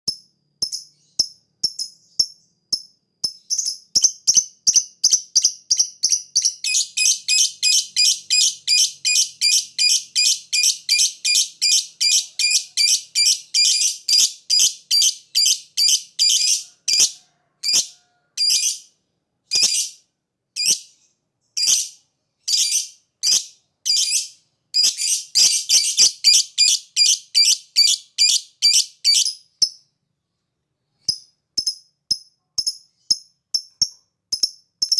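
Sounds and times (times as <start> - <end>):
lovebird chirping: 0.1 - 18.9, 20.6 - 30.0, 30.9 - 34.9.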